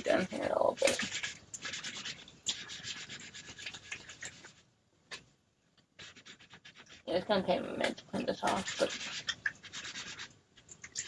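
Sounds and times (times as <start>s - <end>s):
scratchy rubbing strokes: 0.0s - 5.2s, 6.0s - 11.0s.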